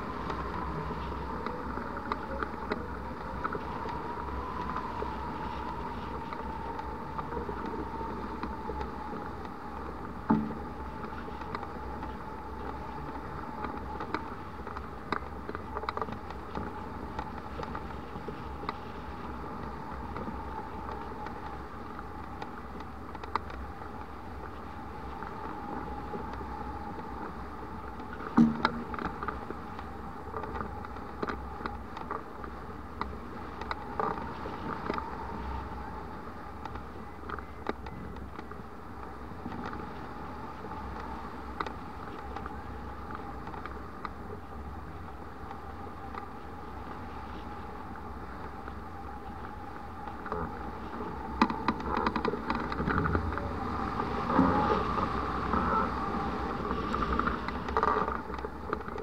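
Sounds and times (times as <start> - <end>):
faint steady tone: 0.0 - 59.0.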